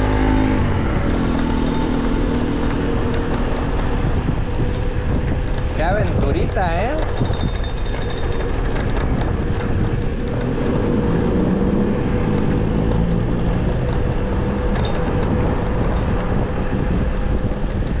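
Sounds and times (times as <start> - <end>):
passing vehicle: 0.0 - 18.0
road traffic: 0.0 - 18.0
wind noise: 0.0 - 18.0.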